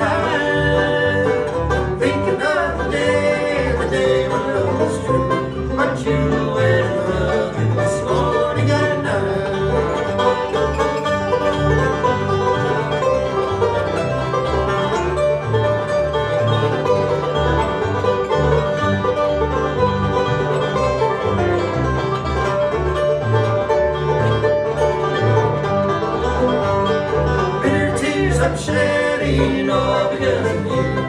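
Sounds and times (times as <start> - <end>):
banjo: 0.0 - 31.0
bluegrass band playing: 0.0 - 31.0
guitar: 0.0 - 31.0
pulsing bass line: 0.0 - 31.0.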